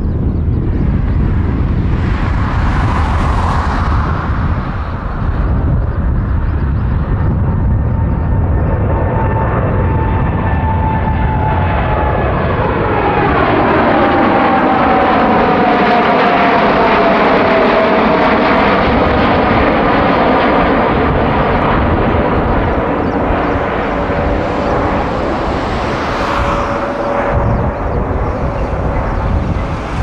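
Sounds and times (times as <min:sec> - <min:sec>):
jet engines roaring with whine: 0:00.0 - 0:30.0.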